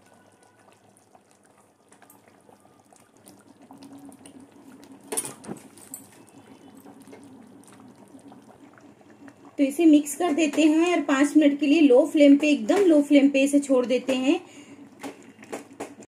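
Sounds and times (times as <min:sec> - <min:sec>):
gravy bubbling in a pot: 0:00.0 - 0:16.0.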